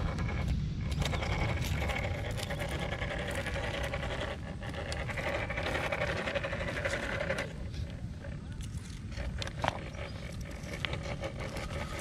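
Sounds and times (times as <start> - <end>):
electric motor and gears whining: 0.0 - 12.0.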